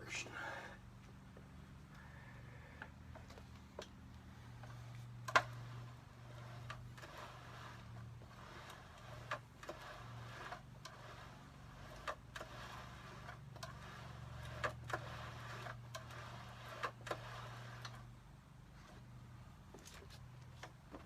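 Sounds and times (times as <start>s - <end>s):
climber machine sliding rustle: 0.0s - 21.0s.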